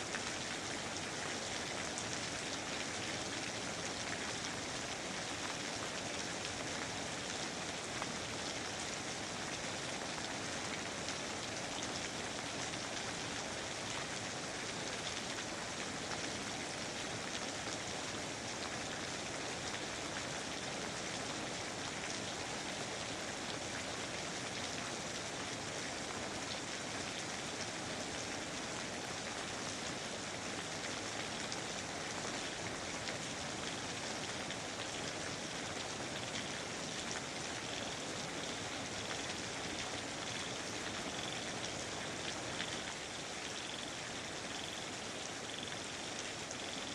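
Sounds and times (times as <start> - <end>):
rain falling on foliage: 0.0 - 46.9.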